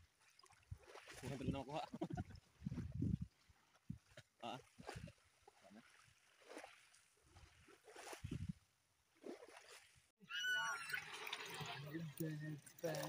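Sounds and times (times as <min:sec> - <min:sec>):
shallow water sloshing: 0:00.0 - 0:10.1, 0:10.8 - 0:13.0.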